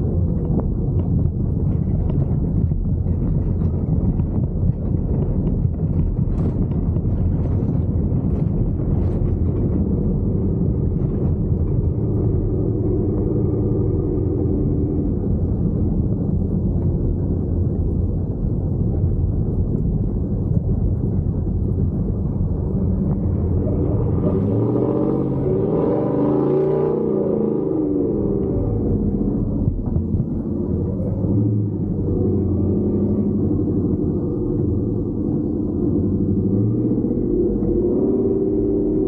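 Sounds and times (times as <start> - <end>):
truck engine rumbling and revving: 0.0 - 39.0.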